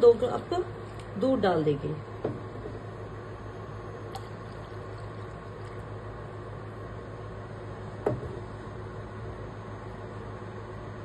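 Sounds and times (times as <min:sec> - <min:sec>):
saucepan hissing and humming on cooktop: 0:00.0 - 0:11.0.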